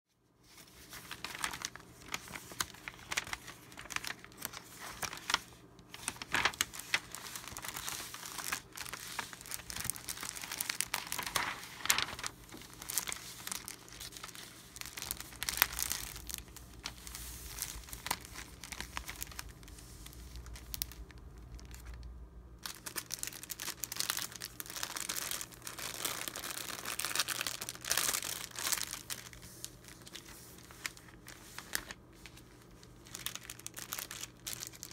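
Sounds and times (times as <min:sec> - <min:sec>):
plastic bag of papers rustling: 0:00.4 - 0:34.9
mailing envelope crinkling: 0:00.5 - 0:34.9.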